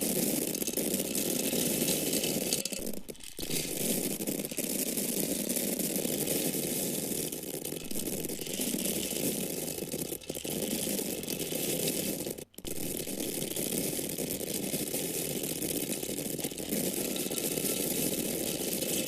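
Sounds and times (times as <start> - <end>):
dry grains falling: 0.0 - 19.0.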